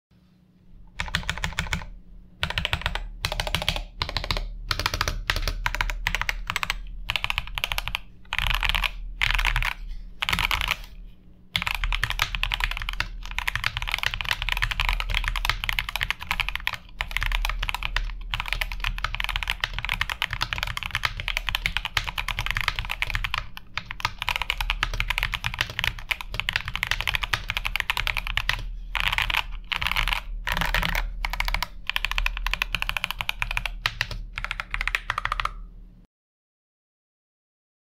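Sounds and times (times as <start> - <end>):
mechanical keyboard typing: 0.9 - 10.9, 11.6 - 35.7.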